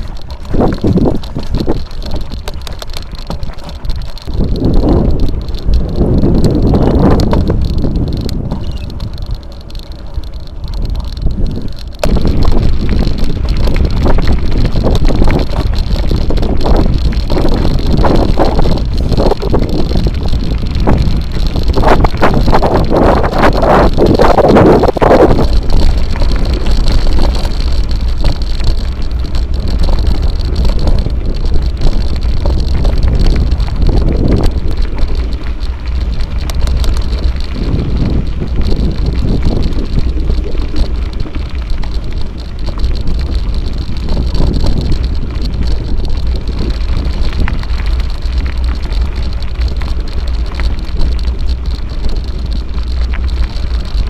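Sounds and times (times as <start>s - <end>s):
bike tyres crunching over gravel: 0.0s - 54.0s
wind rumbling on microphone: 0.0s - 54.0s.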